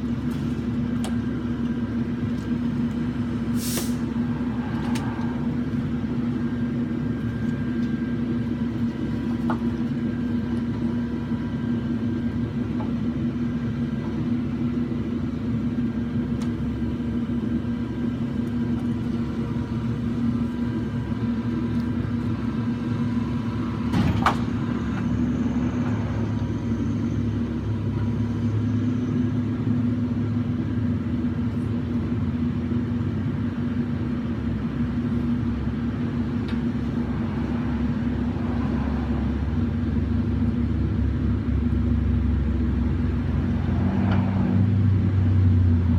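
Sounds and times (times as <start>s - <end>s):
truck engine droning: 0.0s - 45.9s.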